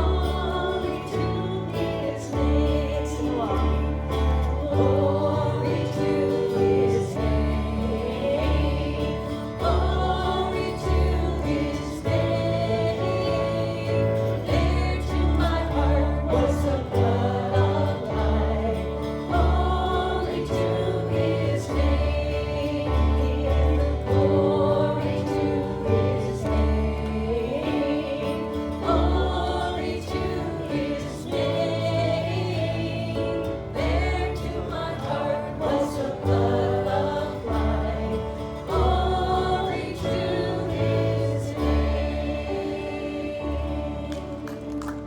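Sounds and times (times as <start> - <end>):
steady bass line: 0.0 - 44.7
group singing a gospel hymn: 0.0 - 45.0.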